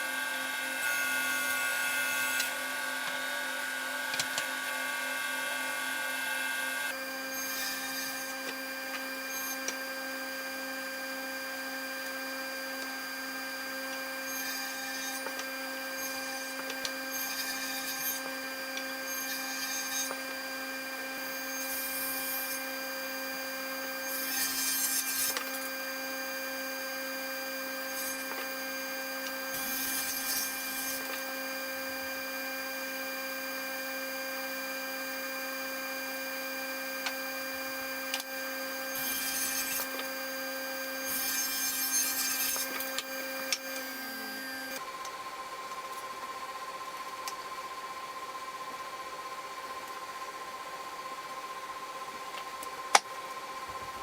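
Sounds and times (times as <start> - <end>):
router cutting into wood: 0.0 - 44.8
router running: 0.0 - 45.8.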